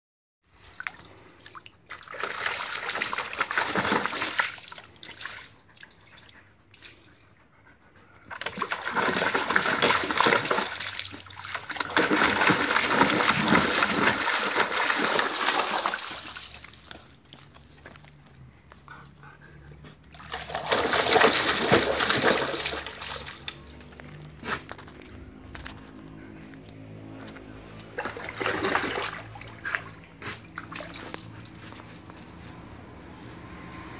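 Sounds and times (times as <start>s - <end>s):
dog splashing water in a tub: 0.7s - 7.2s, 8.2s - 18.2s, 20.0s - 26.0s, 26.8s - 32.4s.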